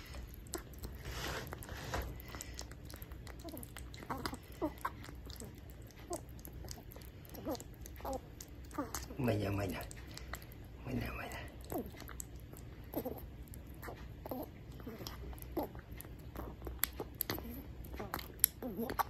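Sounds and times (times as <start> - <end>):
kitten lapping and chewing food: 0.0 - 19.0.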